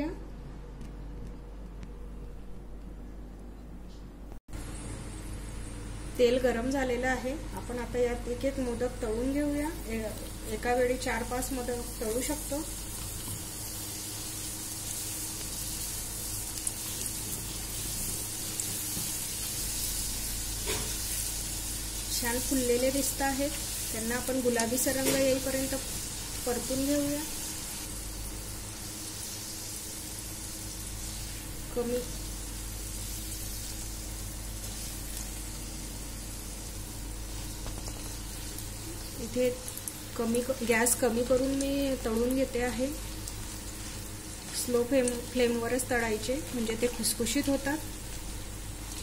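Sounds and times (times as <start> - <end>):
deep-frying sizzle in oil: 4.5 - 49.0.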